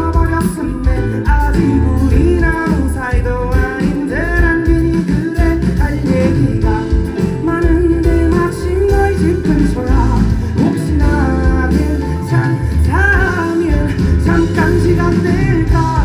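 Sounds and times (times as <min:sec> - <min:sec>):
live band music: 0:00.0 - 0:16.0
man singing: 0:00.0 - 0:16.0.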